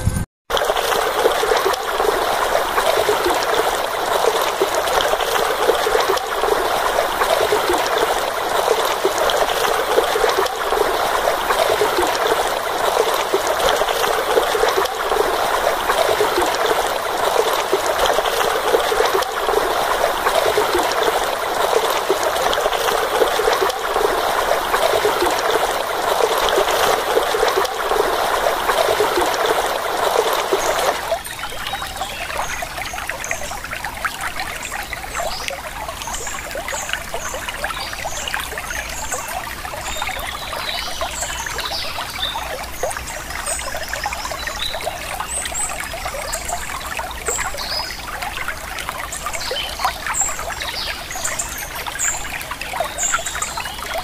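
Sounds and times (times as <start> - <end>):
stream trickling over stones: 0.5 - 54.0.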